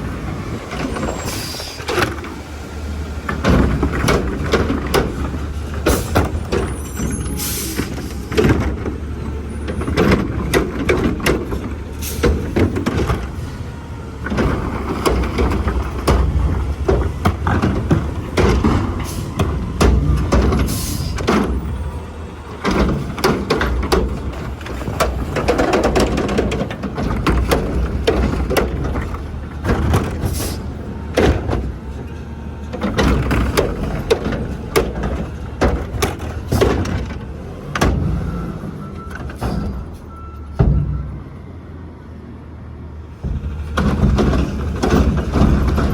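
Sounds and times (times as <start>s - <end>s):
garbage truck engine running: 0.0s - 45.9s
knocks and clanks: 3.2s - 13.5s, 14.2s - 41.4s, 43.1s - 45.9s.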